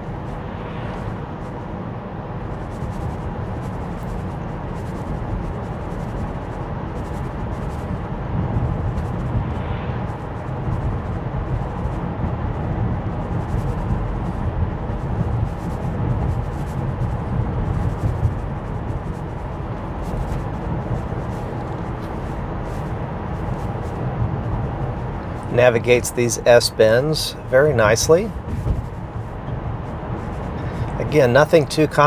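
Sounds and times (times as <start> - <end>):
road and tyre noise in car: 0.0 - 32.0.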